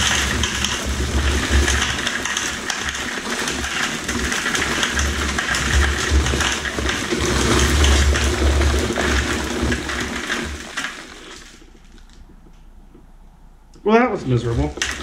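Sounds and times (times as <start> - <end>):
dry concrete mix pouring: 0.0 - 12.2, 14.3 - 15.0.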